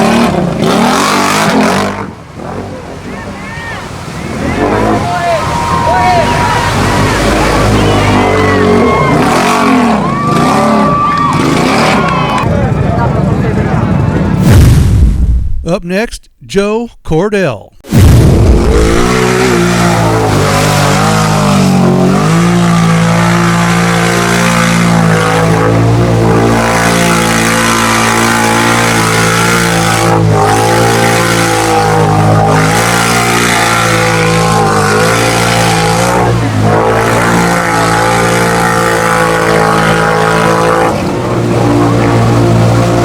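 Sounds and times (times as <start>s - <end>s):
atv engine revving hard: 0.0s - 2.7s, 4.0s - 13.1s, 18.4s - 43.0s.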